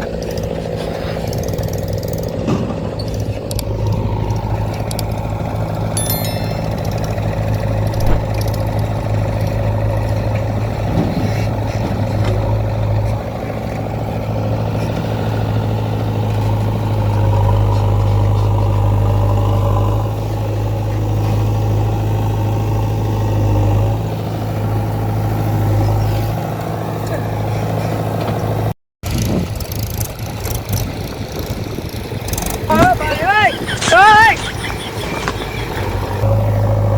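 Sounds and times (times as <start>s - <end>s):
heavy diesel engine humming: 0.0s - 28.7s, 29.4s - 36.9s.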